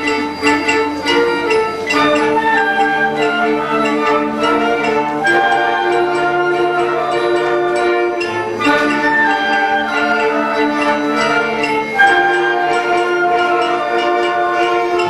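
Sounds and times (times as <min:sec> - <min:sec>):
school band playing chords: 0:00.0 - 0:15.0.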